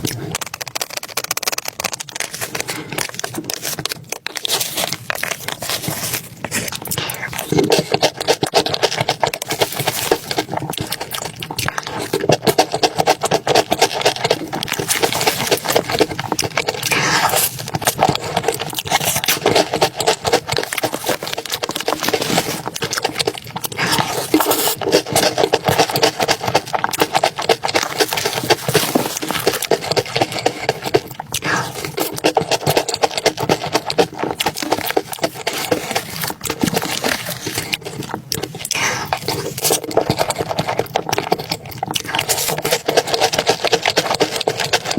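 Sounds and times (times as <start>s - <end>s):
chewing: 0.0s - 44.9s
small clicks and scrapes: 0.0s - 44.9s.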